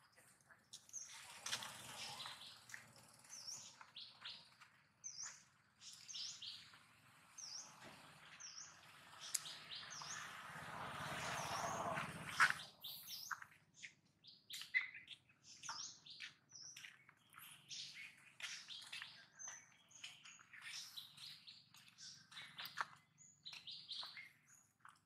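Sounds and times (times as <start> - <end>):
birds chirping and tweeting: 0.0 - 25.0.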